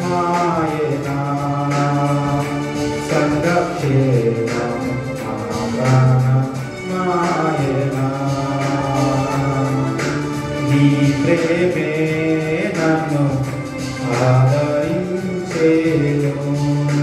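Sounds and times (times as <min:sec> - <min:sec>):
electronic keyboard: 0:00.0 - 0:17.0
man singing: 0:00.0 - 0:17.0.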